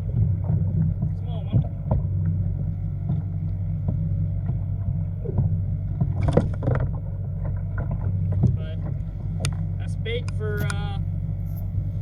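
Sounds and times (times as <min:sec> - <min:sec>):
low rumble of water and wind: 0:00.0 - 0:12.0.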